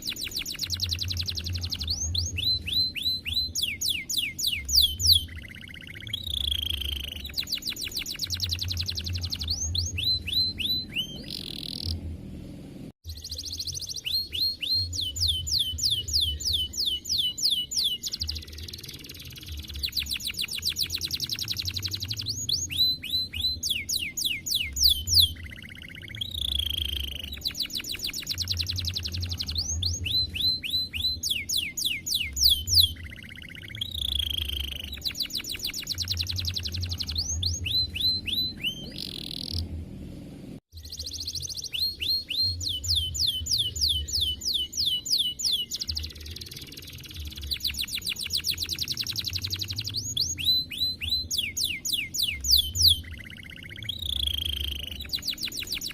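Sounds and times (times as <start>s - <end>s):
canary singing trills: 0.0s - 12.0s, 13.0s - 39.7s, 40.7s - 55.9s.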